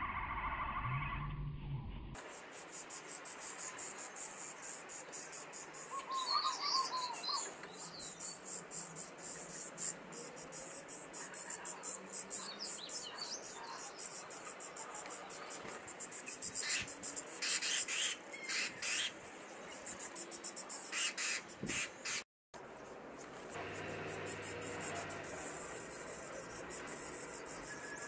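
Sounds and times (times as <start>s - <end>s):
starling nestlings begging calls: 2.3s - 19.1s, 20.8s - 22.2s, 23.2s - 28.0s.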